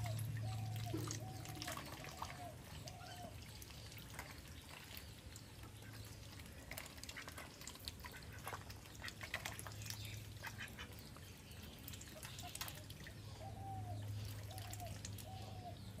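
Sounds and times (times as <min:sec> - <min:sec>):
ducks dabbling in water: 0:00.0 - 0:16.0.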